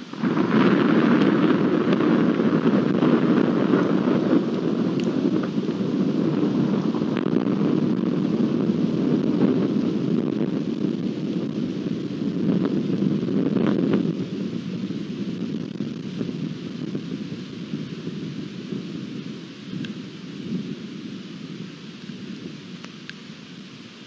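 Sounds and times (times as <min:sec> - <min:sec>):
thunder rumbling: 0:00.0 - 0:24.0.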